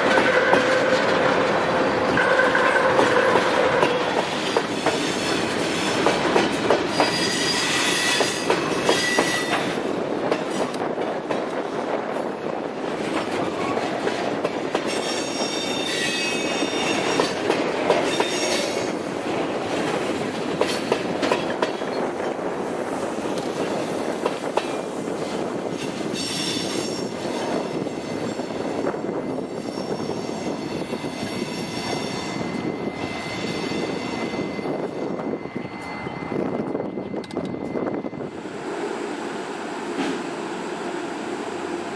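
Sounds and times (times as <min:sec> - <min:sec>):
freight train rumbling on rails: 0:00.0 - 0:41.9.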